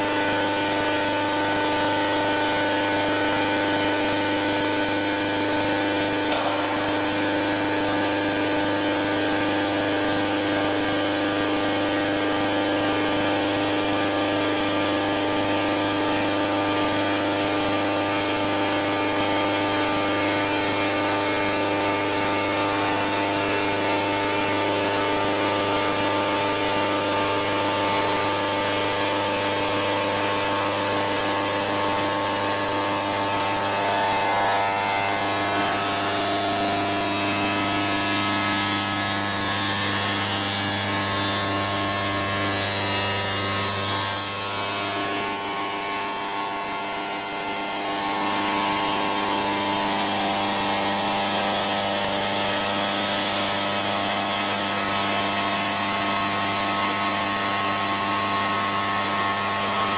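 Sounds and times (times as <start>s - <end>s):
stone router spindle whining: 0.0s - 59.9s.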